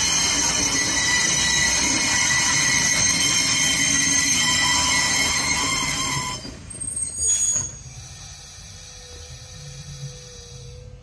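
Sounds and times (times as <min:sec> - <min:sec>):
low rumble of rolling coaches: 0:00.0 - 0:11.0
train wheels squealing: 0:00.0 - 0:11.0
wheel screech: 0:00.0 - 0:11.0.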